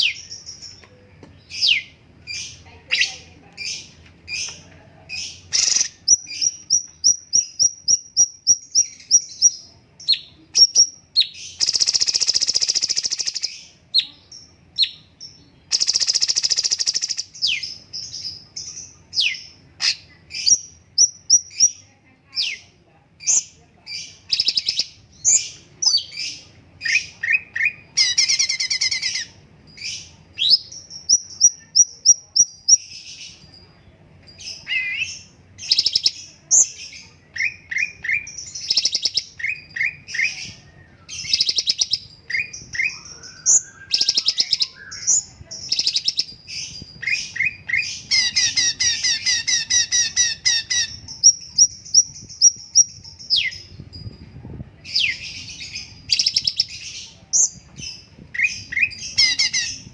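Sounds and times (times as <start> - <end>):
songbird singing chirps and trills: 0.0 - 59.9.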